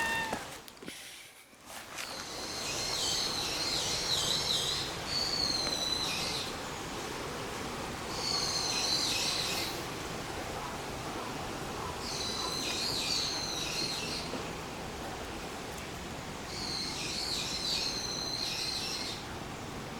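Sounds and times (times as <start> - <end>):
outdoor background noise: 0.0 - 19.9.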